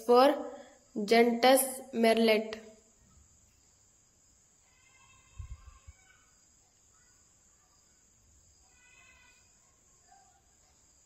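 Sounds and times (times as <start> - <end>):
faint high chirping: 0.0 - 11.0.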